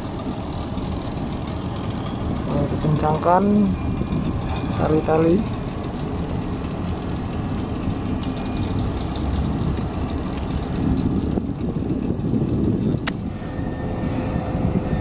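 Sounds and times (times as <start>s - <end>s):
tugboat engines: 0.0s - 15.0s
wind buffeting microphone: 0.0s - 15.0s.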